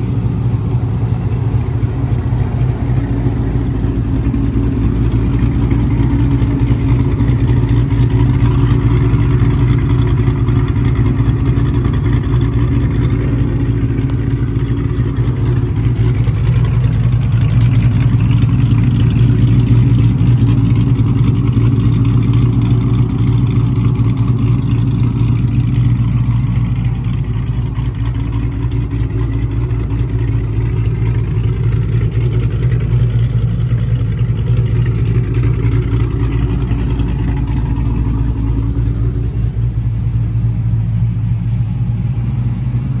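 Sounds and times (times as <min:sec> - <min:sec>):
vehicle engine drone: 0:00.0 - 0:43.0.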